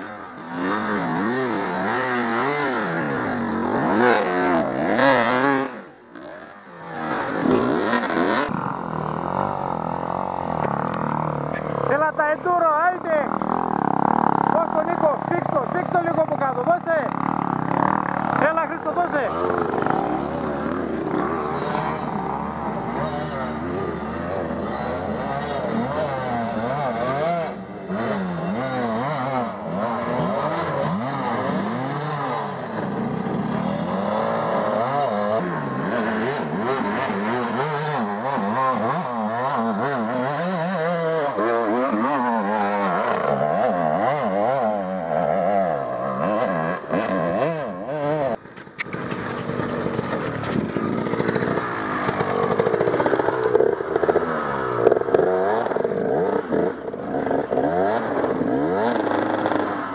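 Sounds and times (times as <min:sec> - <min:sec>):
dirt bike engines revving: 0:00.0 - 0:59.9
dirt bike passing close: 0:00.0 - 0:59.9.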